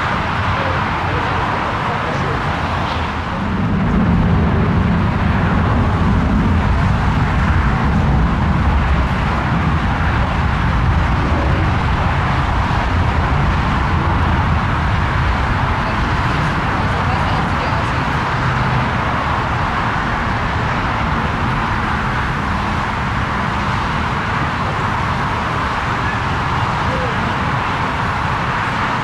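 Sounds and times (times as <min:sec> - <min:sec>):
jet engine noise: 0:00.0 - 0:29.0.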